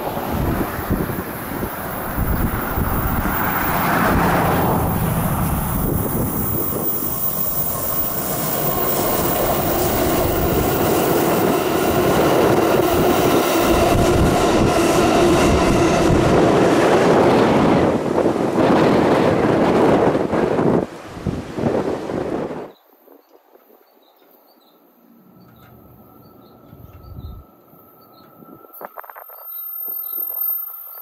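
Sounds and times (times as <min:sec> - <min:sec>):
train rolling rumble: 0:00.0 - 0:22.7, 0:25.3 - 0:29.1.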